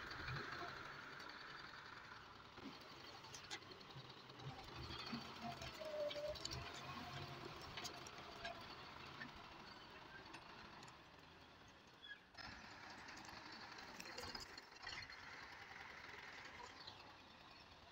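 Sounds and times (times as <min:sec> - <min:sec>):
faint tractor diesel engine running: 0:00.0 - 0:17.9.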